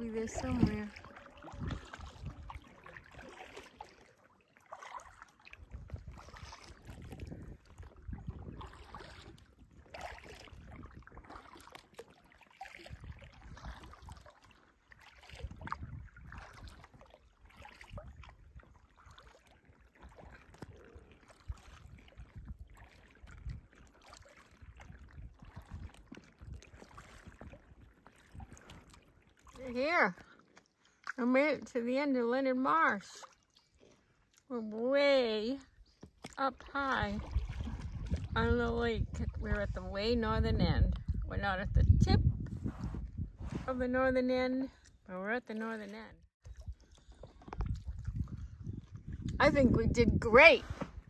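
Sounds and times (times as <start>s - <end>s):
paddle swishing through water: 0.0s - 51.0s.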